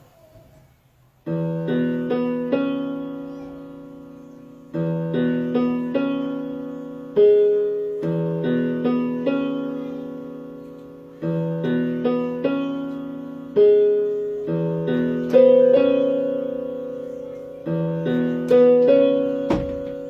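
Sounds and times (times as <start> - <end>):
slow piano chords: 1.2 - 20.0.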